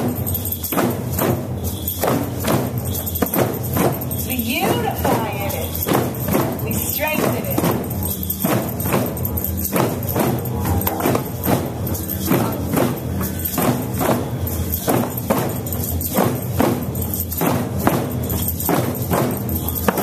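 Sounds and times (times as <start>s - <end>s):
hand drums beating: 0.0s - 20.0s.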